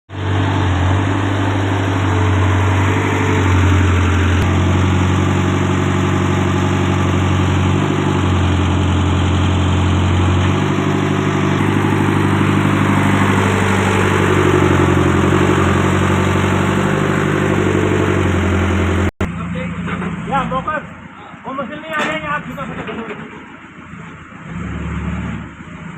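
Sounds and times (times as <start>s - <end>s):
diesel engine running: 0.1s - 25.9s.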